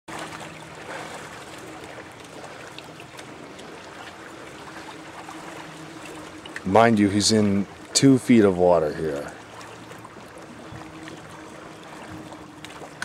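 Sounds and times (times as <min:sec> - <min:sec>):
water splashing and trickling: 0:00.1 - 0:13.0.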